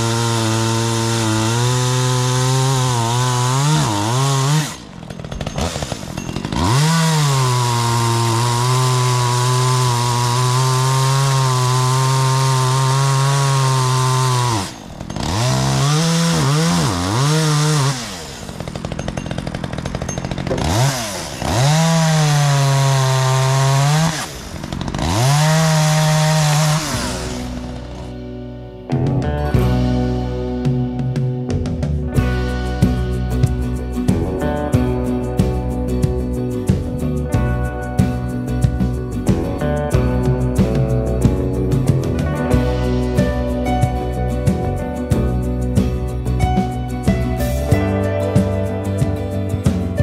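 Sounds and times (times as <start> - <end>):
chainsaw sawing wood: 0.0 - 28.3, 32.2 - 50.0.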